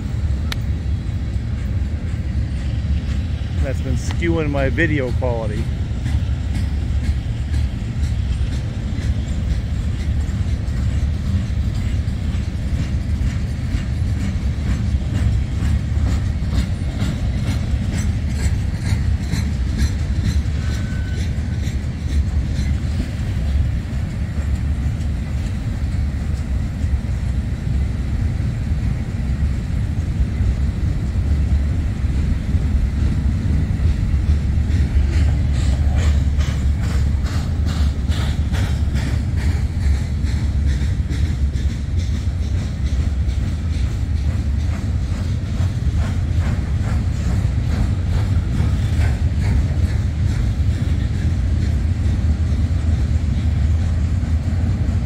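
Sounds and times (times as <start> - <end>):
freight train rumbling on rails: 0.0 - 55.0
wheels clacking over rail joints: 0.2 - 55.0.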